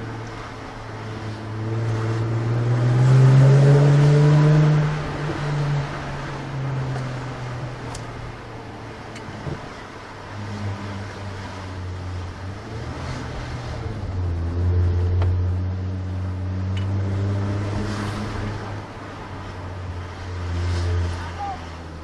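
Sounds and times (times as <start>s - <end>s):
car engine low drone: 0.0s - 22.0s.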